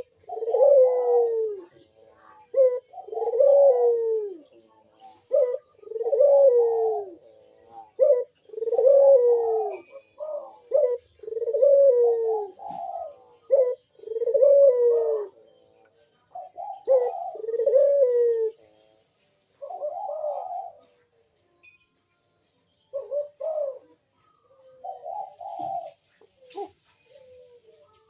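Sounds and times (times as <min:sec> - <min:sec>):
dove cooing: 0:00.0 - 0:21.2, 0:22.9 - 0:28.0.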